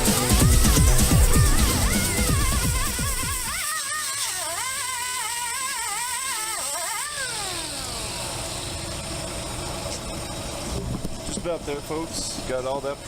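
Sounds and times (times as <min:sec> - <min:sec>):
grinder winding down whine: 0:00.0 - 0:10.5
angle grinder running: 0:00.0 - 0:10.8.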